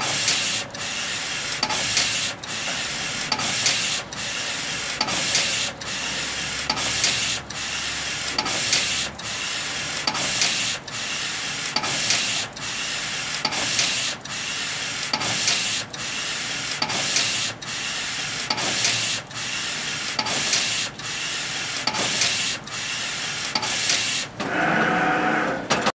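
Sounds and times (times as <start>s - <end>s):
printer carriage sweeping: 0.0s - 10.9s, 11.5s - 25.9s.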